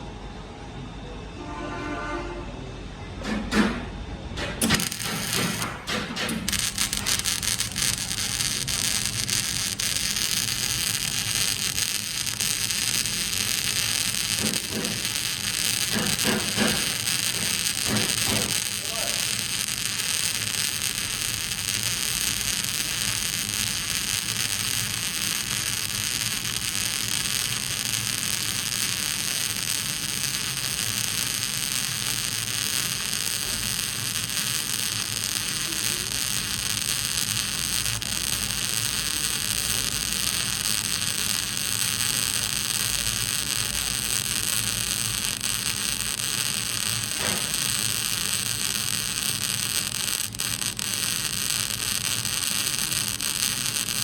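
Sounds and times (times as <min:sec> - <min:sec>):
arc welding hiss and crackle: 0:03.2 - 0:54.0.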